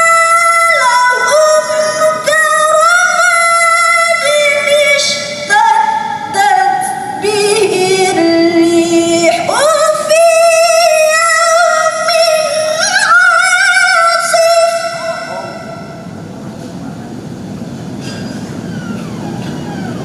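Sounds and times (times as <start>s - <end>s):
woman reciting melodically: 0.0s - 16.1s.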